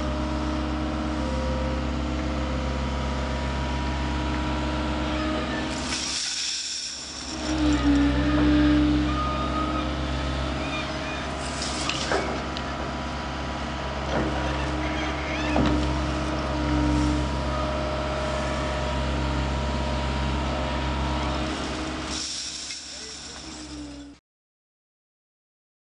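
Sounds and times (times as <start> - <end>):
diesel engine running: 0.0 - 24.2
hydraulic whine: 0.0 - 24.2.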